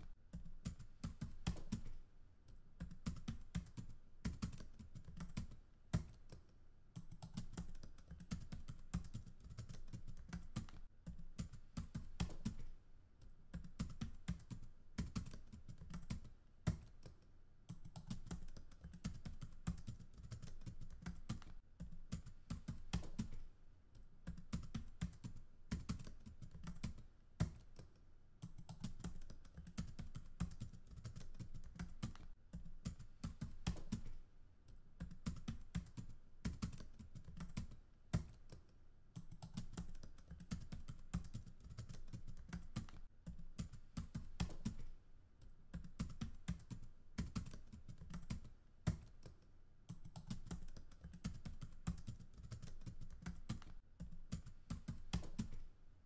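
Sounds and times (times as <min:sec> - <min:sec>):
typing on a keyboard: 0:00.0 - 0:55.7.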